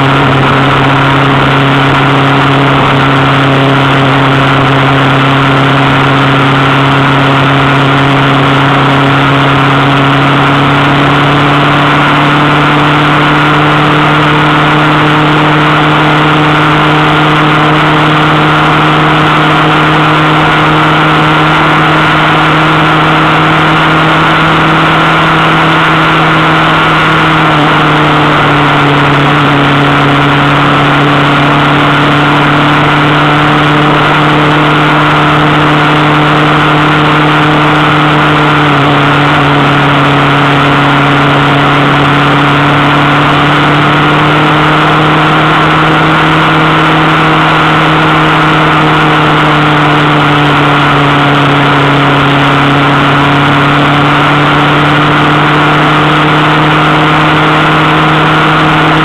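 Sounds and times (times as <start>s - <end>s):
vehicle engine droning: 0.0s - 59.0s
wind and road noise: 0.0s - 59.0s.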